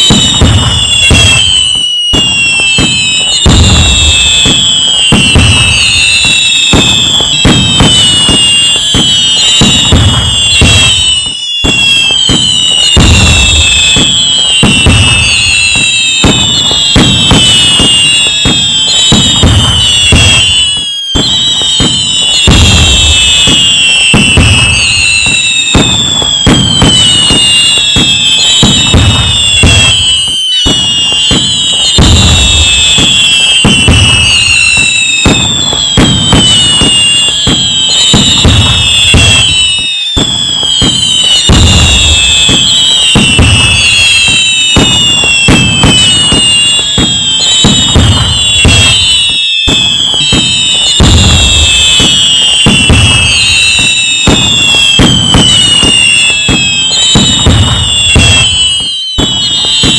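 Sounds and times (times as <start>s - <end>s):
fireworks booming: 0.0s - 59.9s
fireworks crackling: 0.0s - 59.9s
fireworks whistling: 0.0s - 59.9s.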